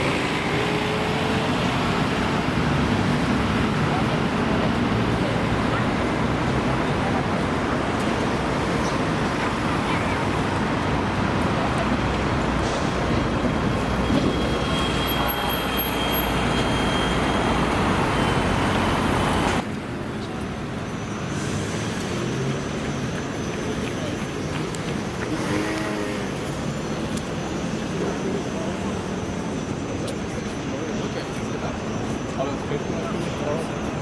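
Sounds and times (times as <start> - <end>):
bus driving past: 0.0 - 34.0
street traffic noise: 0.0 - 34.0.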